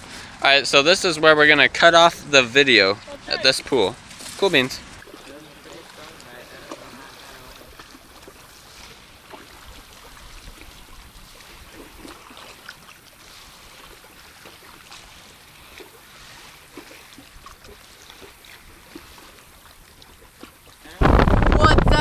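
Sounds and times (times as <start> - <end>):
lake waves lapping on rocks: 2.2 - 22.0.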